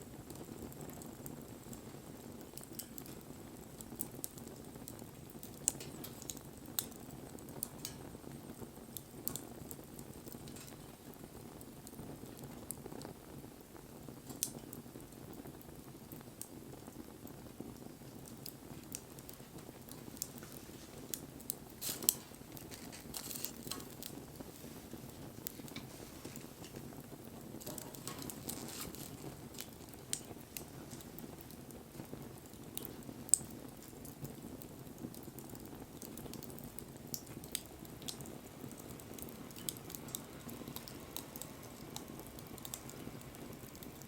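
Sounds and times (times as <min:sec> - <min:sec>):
low rush of flame: 0:00.0 - 0:44.0
sharp crackles and pops: 0:00.0 - 0:44.0.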